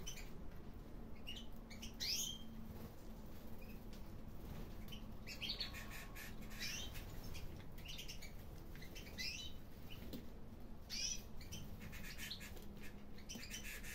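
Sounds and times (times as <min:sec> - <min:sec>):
canaries chirping: 0:00.0 - 0:00.4, 0:01.1 - 0:02.6, 0:03.5 - 0:10.2, 0:10.8 - 0:13.9.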